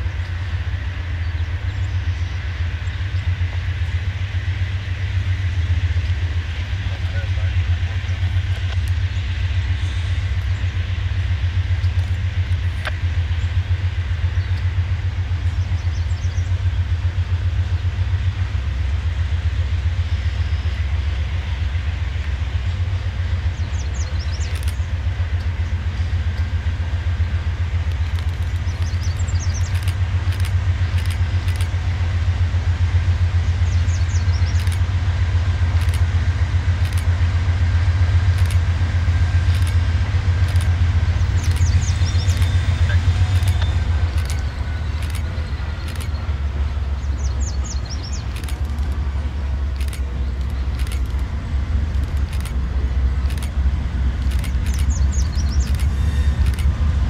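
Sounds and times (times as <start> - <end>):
diesel locomotive rumble: 0.0 - 57.0.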